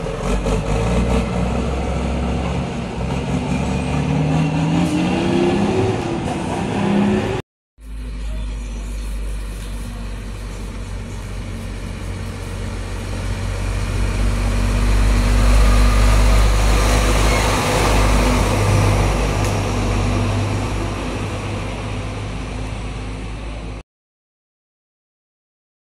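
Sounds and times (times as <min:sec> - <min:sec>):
diesel truck passing by: 0:00.0 - 0:23.8.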